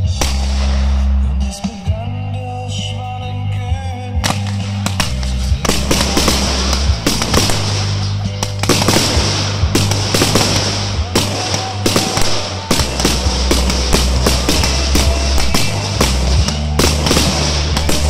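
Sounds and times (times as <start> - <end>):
fireworks bangs and crackling: 0.0 - 2.1, 4.0 - 18.0
music playing: 0.0 - 18.0.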